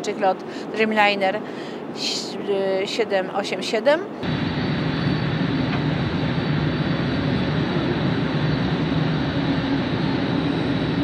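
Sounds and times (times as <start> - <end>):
jet aircraft rumble and hiss: 0.0 - 11.0.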